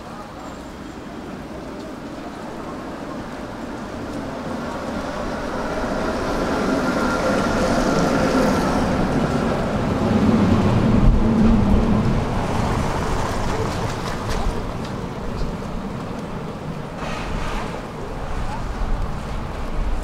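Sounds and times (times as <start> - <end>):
heavy vehicle rumble: 0.0 - 20.0.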